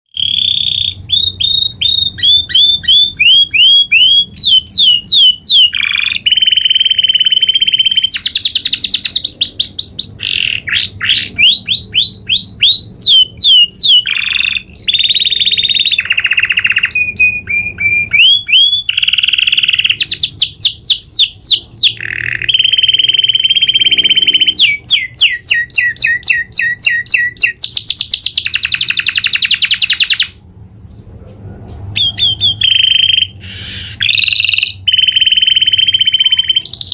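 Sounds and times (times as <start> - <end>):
canary singing trills: 0.1 - 36.9.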